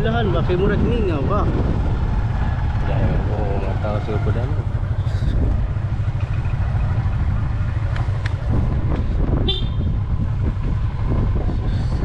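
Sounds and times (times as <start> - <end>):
motorcycle engine: 0.0 - 11.6
wind rumble: 0.0 - 12.0.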